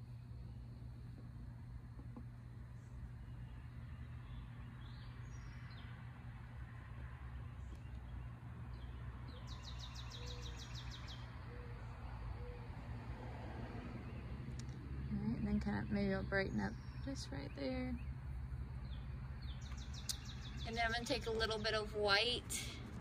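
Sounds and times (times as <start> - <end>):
low outdoor hum: 0.0 - 23.0
songbirds calling: 0.0 - 23.0.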